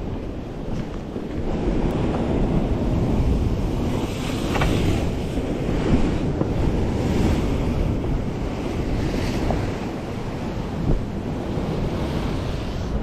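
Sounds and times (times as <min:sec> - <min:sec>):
wind buffeting microphone: 0:00.0 - 0:13.0
waves washing on rocks: 0:00.5 - 0:13.0.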